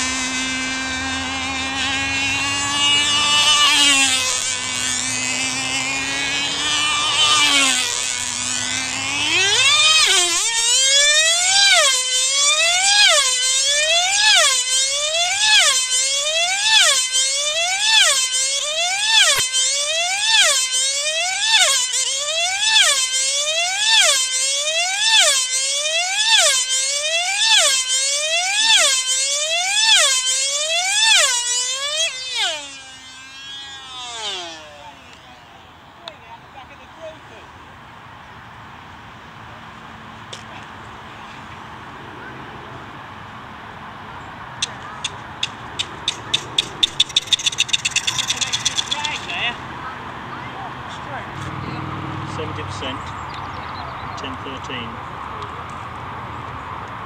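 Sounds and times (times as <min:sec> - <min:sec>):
model engine high whine: 0:00.0 - 0:57.0.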